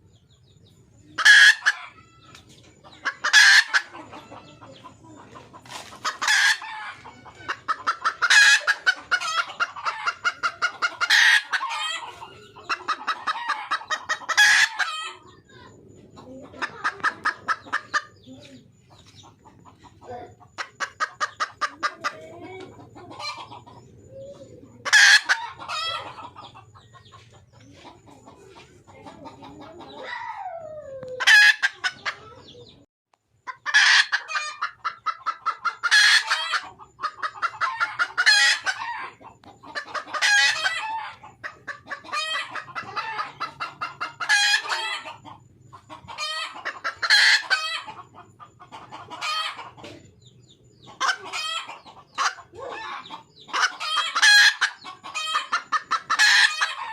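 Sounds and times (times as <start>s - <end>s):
junglefowl hen clucking: 0.2s - 56.9s.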